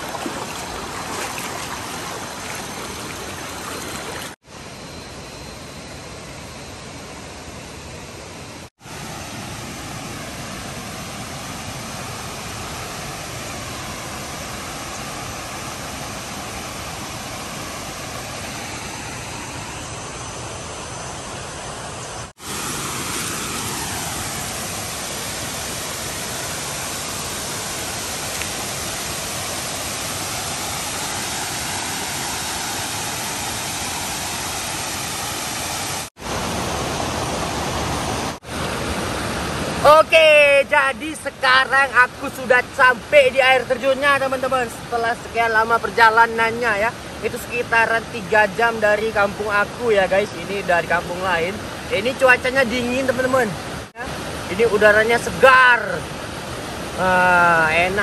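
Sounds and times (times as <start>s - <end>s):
waterfall rushing: 0.0s - 4.4s, 8.8s - 58.0s.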